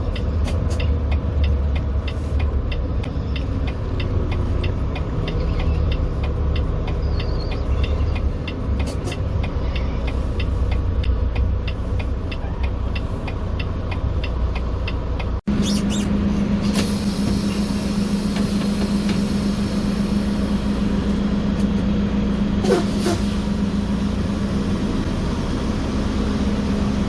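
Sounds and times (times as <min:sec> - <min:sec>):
truck diesel engine rumble: 0:00.0 - 0:27.0.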